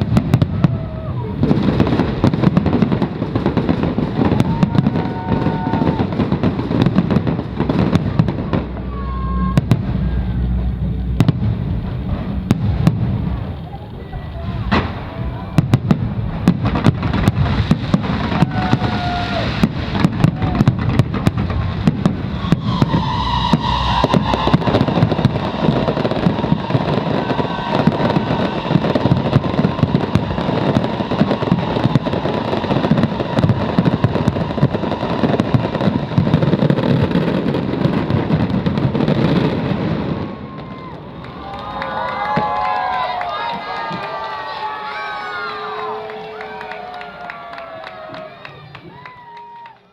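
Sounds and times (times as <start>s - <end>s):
fireworks bangs: 0.0s - 49.8s
fireworks crackling: 0.0s - 49.9s.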